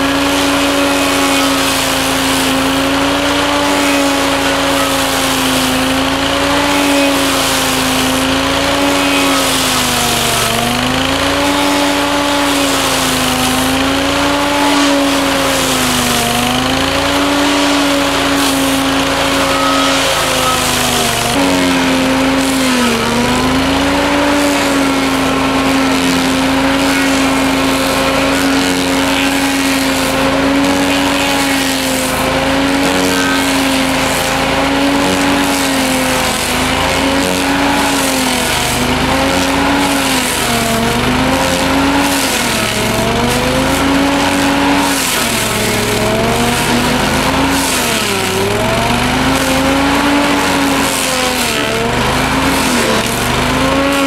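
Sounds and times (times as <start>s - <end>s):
cutting disc grinding wood: 0.0s - 54.0s
stump grinder engine at full throttle: 0.0s - 54.0s.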